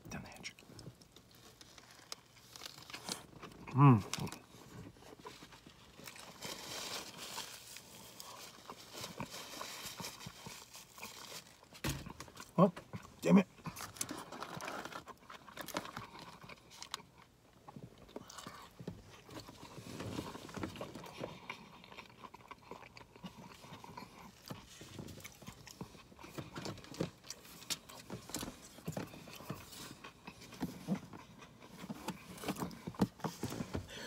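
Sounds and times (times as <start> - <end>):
person chewing: 0.4 - 34.0.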